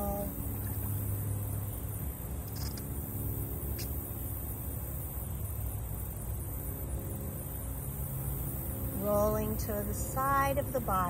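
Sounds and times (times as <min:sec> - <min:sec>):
faint hum: 0:00.0 - 0:11.0
low outdoor rumble: 0:00.0 - 0:11.0.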